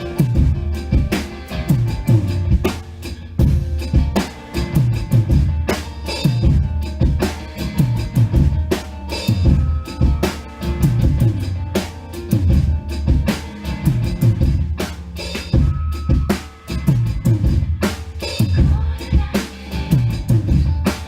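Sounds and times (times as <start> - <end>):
drum kit playing a groove: 0.0 - 21.0
recorded song with bass notes: 0.0 - 21.0.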